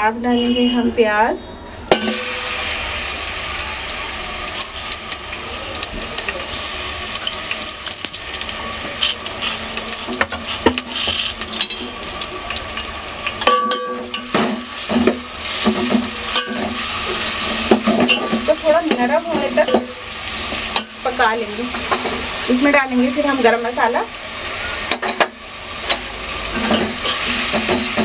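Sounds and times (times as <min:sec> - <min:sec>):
onions sizzling in hot oil: 0:01.9 - 0:28.0.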